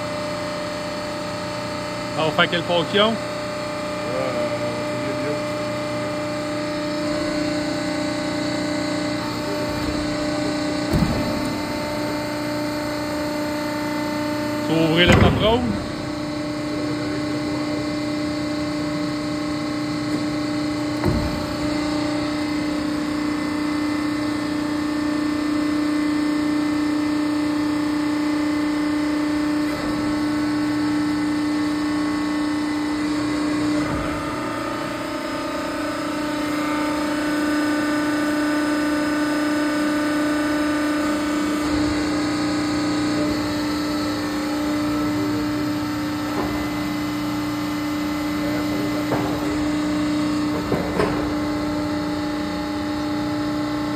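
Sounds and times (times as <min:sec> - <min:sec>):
hydraulic machine humming: 0:00.0 - 0:53.9.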